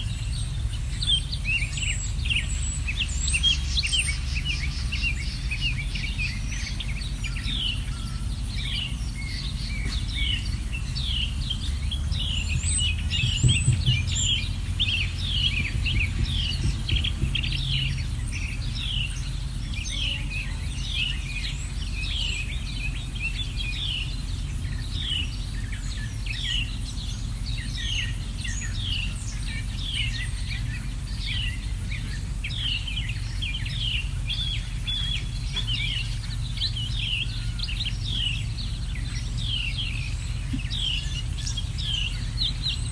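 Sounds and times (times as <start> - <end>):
birds chirping: 0.0 - 42.9
steady low rumble: 0.0 - 42.9.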